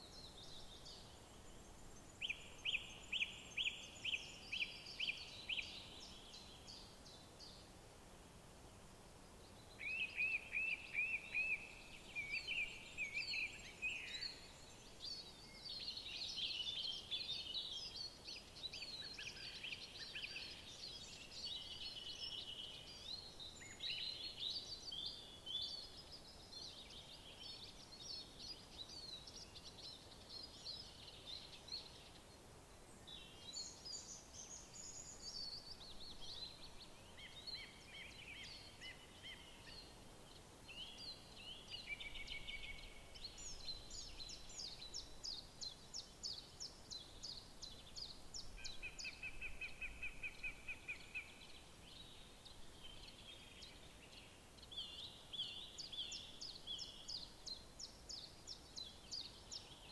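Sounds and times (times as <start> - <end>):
songbirds singing: 0.0 - 7.7, 9.3 - 59.9
faint background hiss: 0.0 - 59.9.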